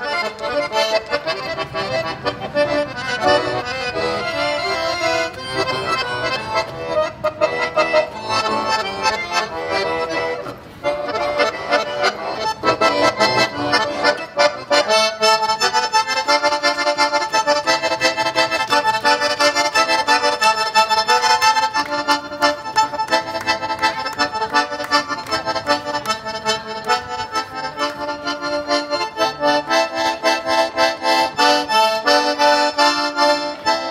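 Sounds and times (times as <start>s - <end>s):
accordion playing folk tune: 0.0s - 33.9s.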